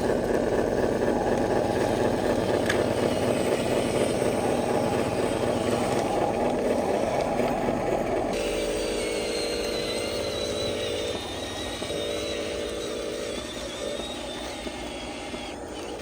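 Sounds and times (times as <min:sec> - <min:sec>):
low motor hum: 0:00.0 - 0:16.0
small electric motors whining: 0:00.0 - 0:16.0.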